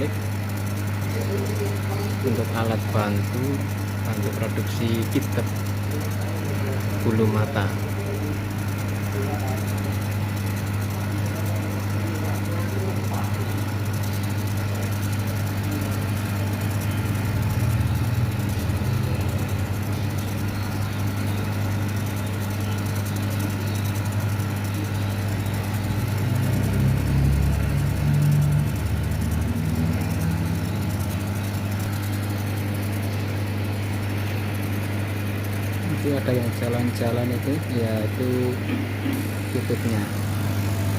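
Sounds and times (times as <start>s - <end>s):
electric machinery humming: 0.0s - 40.9s.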